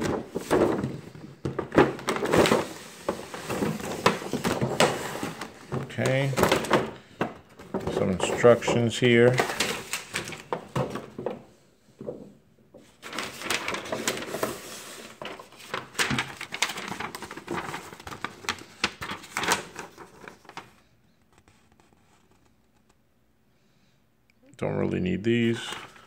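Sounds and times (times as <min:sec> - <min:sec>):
paper rustling and crinkling: 0:00.0 - 0:11.4, 0:12.8 - 0:22.9, 0:25.3 - 0:26.0.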